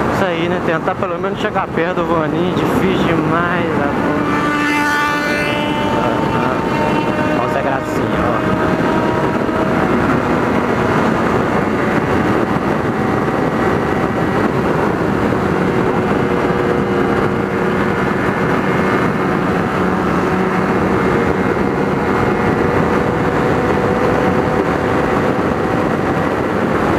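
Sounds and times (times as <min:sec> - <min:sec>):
motorcycle engine cruising: 0:00.0 - 0:26.9
wind and road noise: 0:00.0 - 0:26.9.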